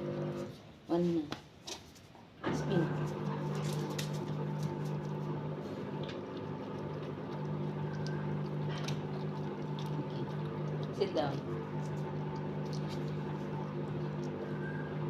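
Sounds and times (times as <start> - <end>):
electrical motor hum: 0.0 - 0.6, 2.4 - 15.0.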